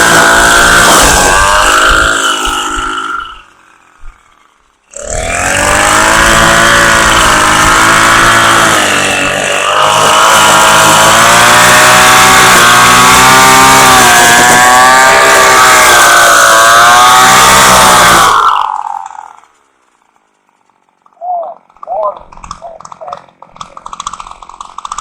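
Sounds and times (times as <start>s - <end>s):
string trimmer engine running: 0.0s - 25.0s.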